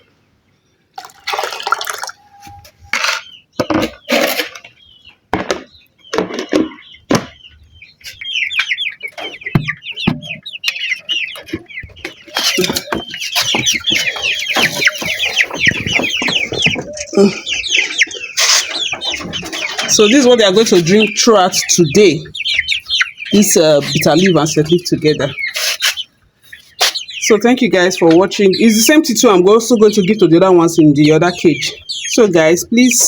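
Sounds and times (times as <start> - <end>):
chickens calling: 0.0 - 33.0.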